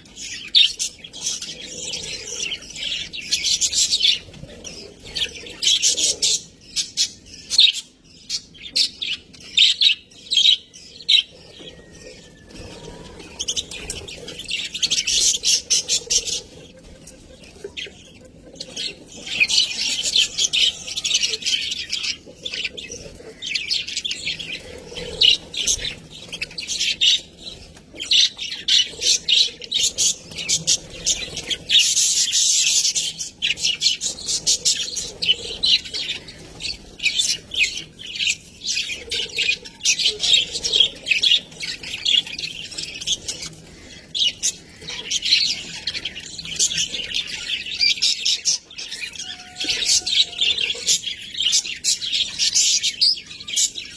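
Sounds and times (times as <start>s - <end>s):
budgerigars chirping: 0.1s - 53.9s.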